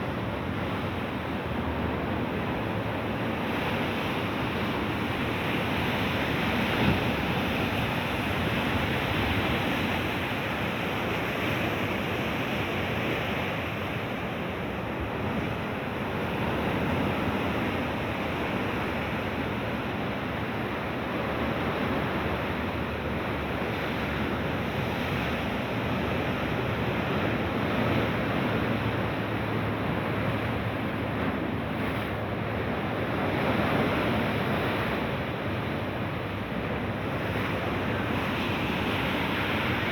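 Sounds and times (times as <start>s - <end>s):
sea surf washing ashore: 0.0s - 39.9s.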